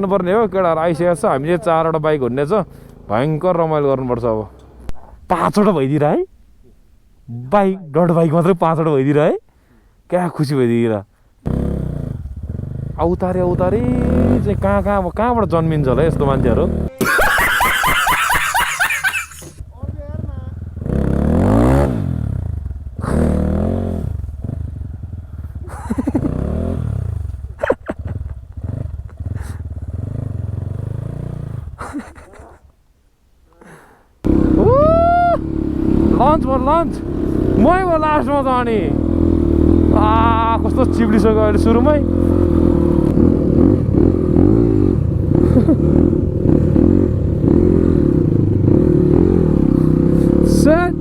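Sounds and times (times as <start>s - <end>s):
motorcycle engines revving: 0.0s - 7.4s, 11.4s - 32.4s, 34.2s - 51.0s.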